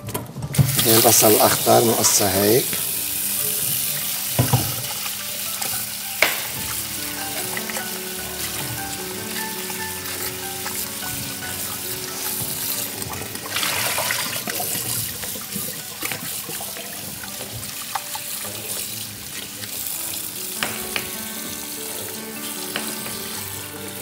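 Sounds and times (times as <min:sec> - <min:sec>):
tap running into sink: 0:00.5 - 0:03.0, 0:03.8 - 0:19.8, 0:20.6 - 0:23.5.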